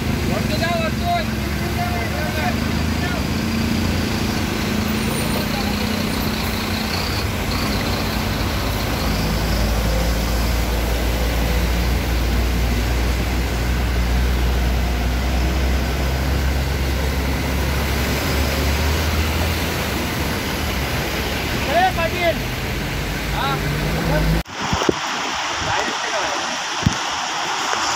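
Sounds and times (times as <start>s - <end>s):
truck engines rumbling: 0.0s - 24.5s
tyres through floodwater: 0.0s - 27.9s
water and rain hissing: 0.0s - 27.9s.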